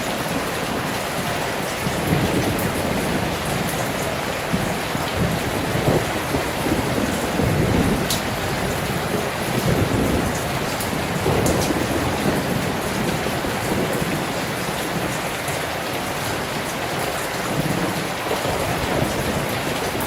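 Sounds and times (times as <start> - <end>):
heavy rain indoors: 0.0 - 20.0
wind rumbling: 0.0 - 20.0.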